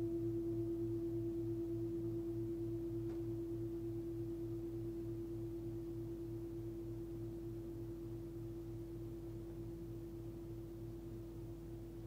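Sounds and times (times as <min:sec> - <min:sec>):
singing bowl ringing: 0:00.0 - 0:11.6.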